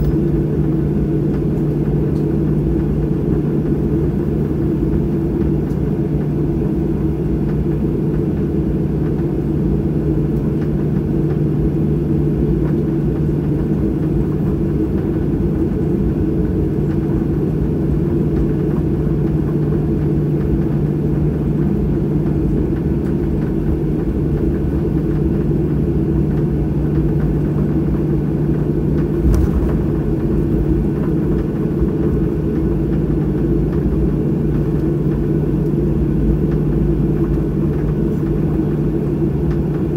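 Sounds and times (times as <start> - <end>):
airliner cabin hum and rumble: 0.0 - 39.9.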